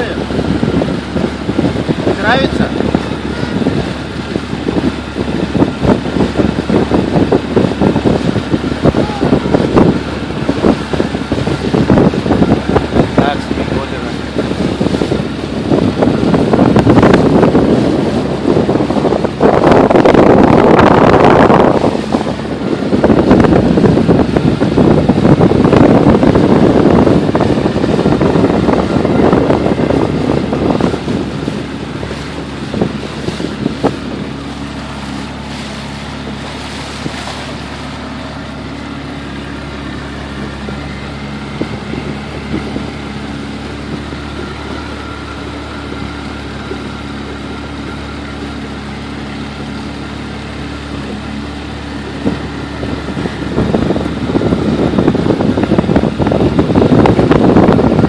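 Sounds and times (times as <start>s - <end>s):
small boat motor running: 0.0s - 58.0s
wind buffeting microphone: 0.0s - 58.0s.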